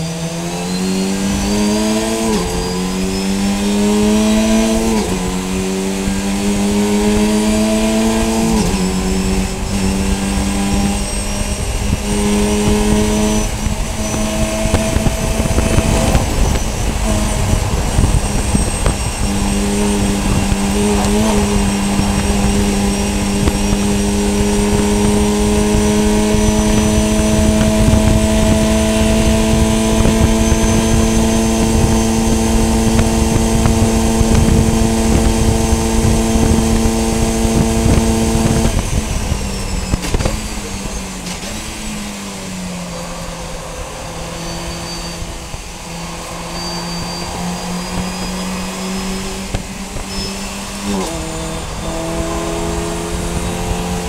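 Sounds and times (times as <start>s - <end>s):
race car engine at full throttle: 0.0s - 54.0s
wind and road noise: 0.0s - 54.0s.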